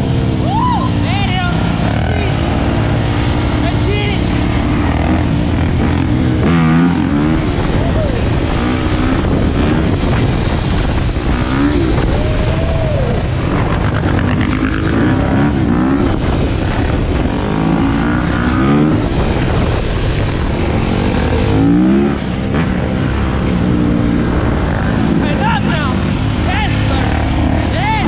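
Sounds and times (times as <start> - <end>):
atv engines revving: 0.0 - 28.0
wind rush on microphone: 0.0 - 28.0.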